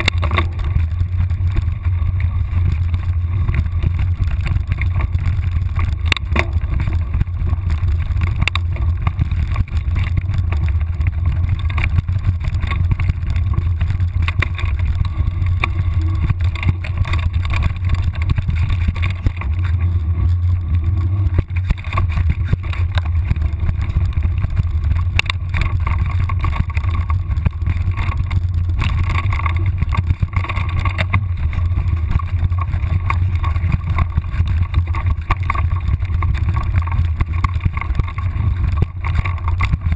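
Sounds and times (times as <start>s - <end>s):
camera jolting knocks and rattles: 0.0s - 19.8s, 20.8s - 39.9s
wind buffeting microphone: 0.0s - 39.9s.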